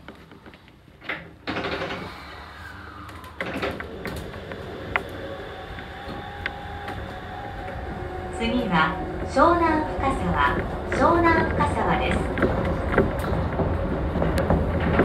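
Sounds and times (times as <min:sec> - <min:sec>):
monorail running noise: 0:00.0 - 0:15.0
faint steady whine: 0:00.1 - 0:15.0.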